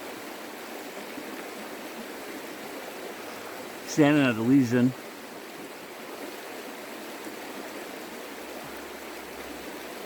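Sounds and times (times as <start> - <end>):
creek water flowing over rocks: 0.0 - 10.0.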